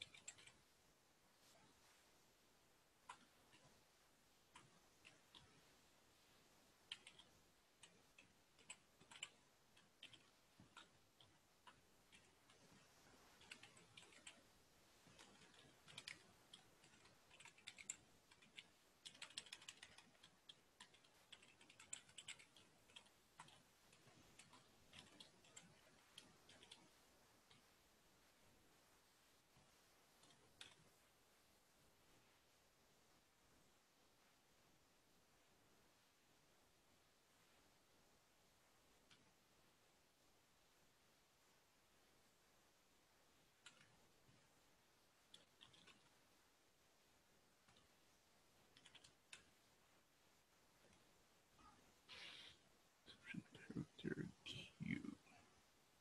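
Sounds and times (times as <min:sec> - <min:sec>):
faint keyboard typing: 0:00.0 - 0:00.8, 0:02.8 - 0:28.8, 0:29.4 - 0:31.2, 0:37.3 - 0:41.0, 0:42.1 - 0:55.4.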